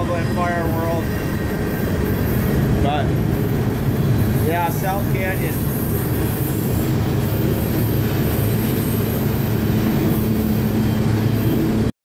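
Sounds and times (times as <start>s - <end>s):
train rolling rumble: 0.0s - 11.9s.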